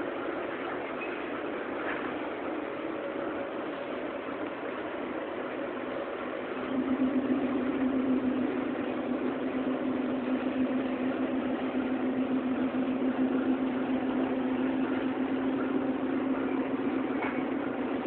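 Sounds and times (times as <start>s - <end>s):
locomotive diesel engine droning: 0.0s - 18.0s.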